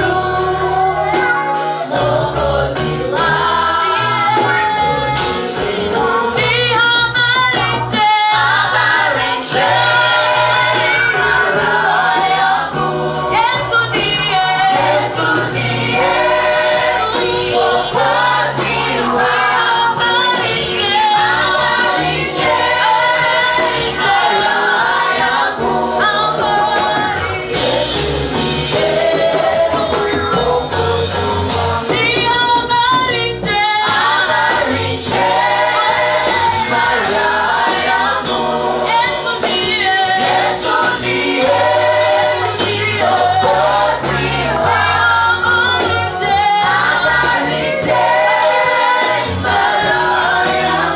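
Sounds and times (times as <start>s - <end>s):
bass line: 0.0s - 50.9s
gospel choir singing: 0.0s - 50.9s.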